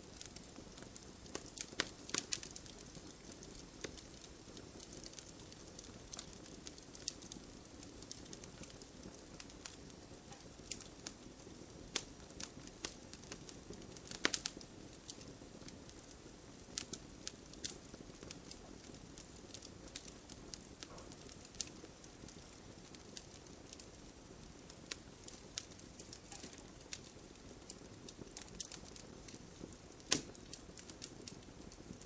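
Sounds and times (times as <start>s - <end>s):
bonfire crackling and popping: 0.0s - 32.0s
rain pattering: 0.0s - 32.0s.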